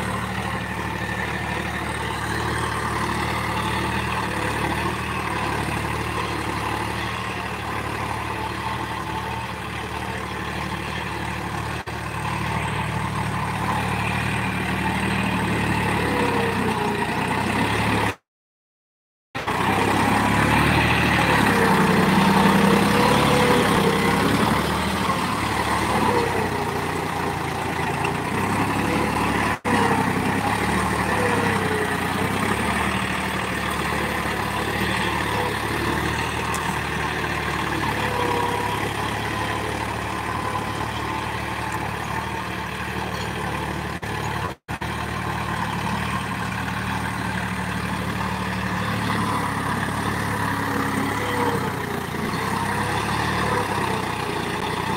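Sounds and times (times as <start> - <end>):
tractor diesel engine running: 0.0 - 18.2, 19.4 - 54.9.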